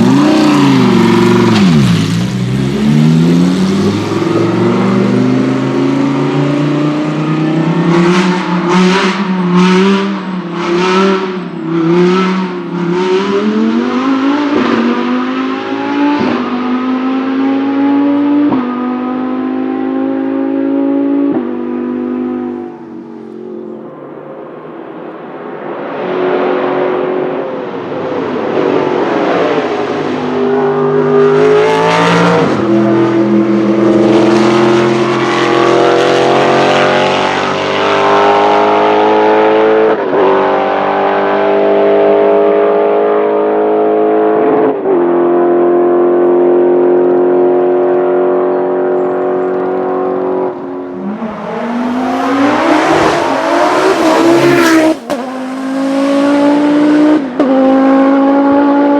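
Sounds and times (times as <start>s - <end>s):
different engine revving: 0.0s - 24.2s, 26.4s - 58.9s
race car accelerating through gears: 0.0s - 24.9s, 25.9s - 58.9s.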